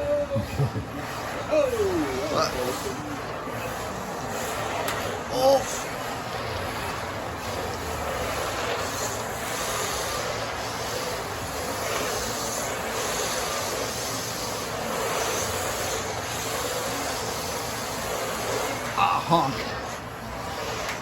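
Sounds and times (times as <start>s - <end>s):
toy cars electric motors whirring: 0.0s - 21.0s.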